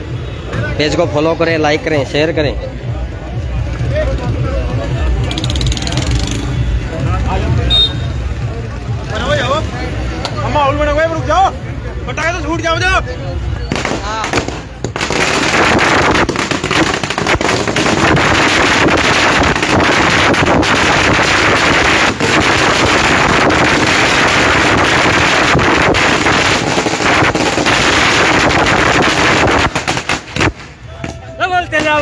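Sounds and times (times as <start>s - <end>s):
firecrackers crackling: 3.4s - 11.5s, 13.6s - 32.0s.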